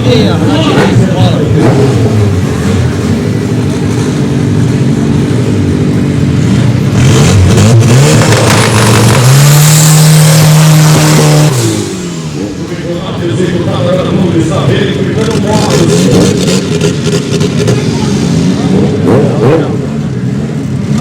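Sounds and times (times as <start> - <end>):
drag racing car accelerating: 0.0 - 21.0.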